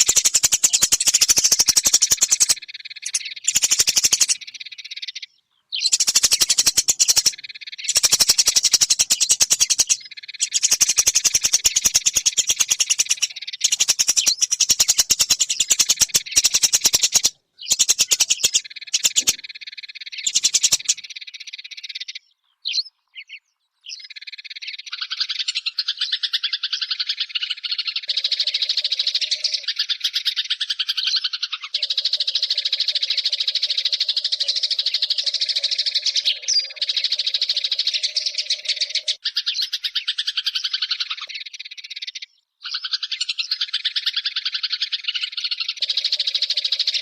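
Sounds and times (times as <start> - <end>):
sparrow chirping: 0.0 - 47.0.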